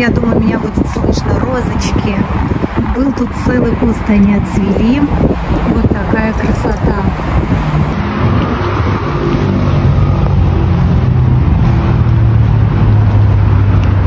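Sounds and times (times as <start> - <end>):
car engine running: 0.4 - 14.0.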